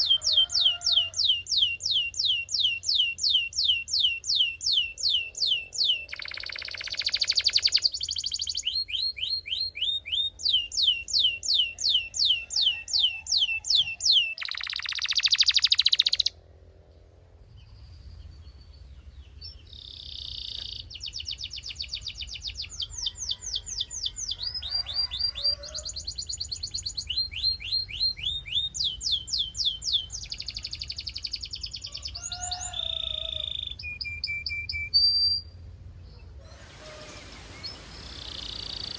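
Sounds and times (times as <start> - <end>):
canary singing: 0.0 - 16.4, 19.3 - 35.6, 36.5 - 38.9.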